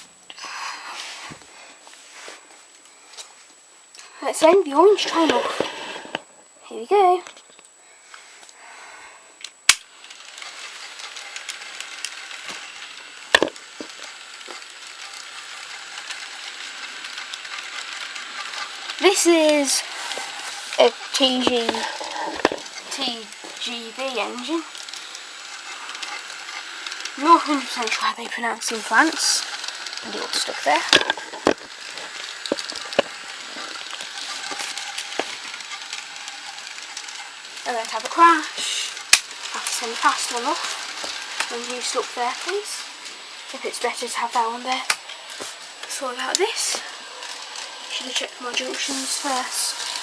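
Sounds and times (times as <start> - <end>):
toy train rattling whirr: 0.3 - 50.0
toy train sharp clack: 9.7 - 50.0.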